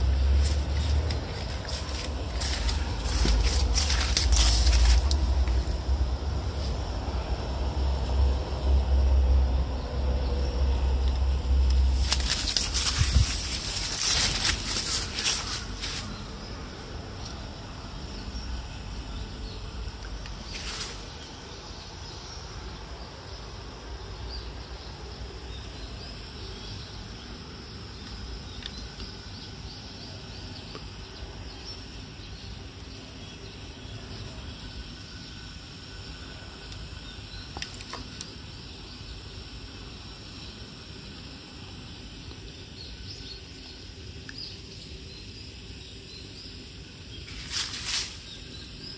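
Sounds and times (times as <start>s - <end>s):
low rumble and hiss: 0.0s - 48.9s.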